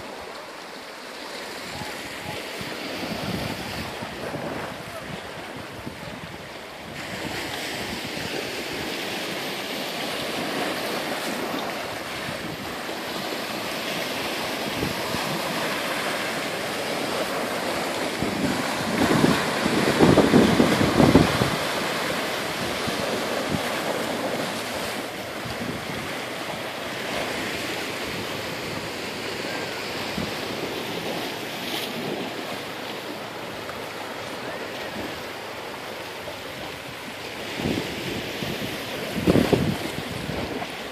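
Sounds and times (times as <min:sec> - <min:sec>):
waves washing onto sandy beach: 0:00.0 - 0:40.9
wind buffeting microphone: 0:01.6 - 0:40.9.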